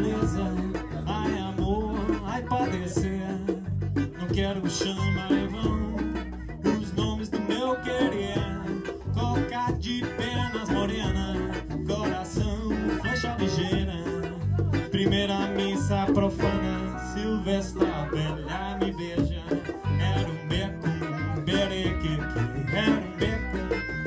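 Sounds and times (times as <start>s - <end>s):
bass guitar: 0.0s - 24.0s
congas: 0.0s - 24.0s
electric guitars: 0.0s - 24.0s
man singing: 0.0s - 24.0s.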